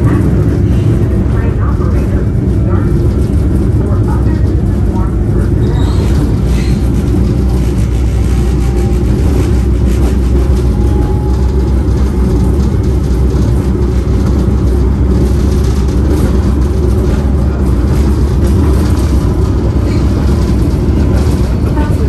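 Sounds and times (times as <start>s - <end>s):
electric streetcar low rumble: 0.0s - 22.0s.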